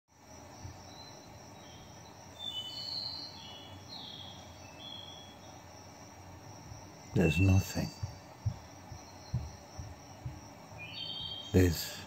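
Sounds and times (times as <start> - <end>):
faint birdsong: 0.1 - 12.0
room hiss: 0.1 - 12.0.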